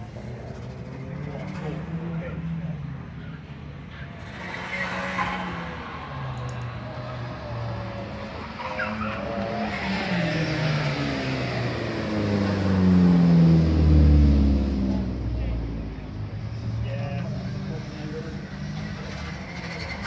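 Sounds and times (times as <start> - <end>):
racing car engine: 0.0 - 20.0.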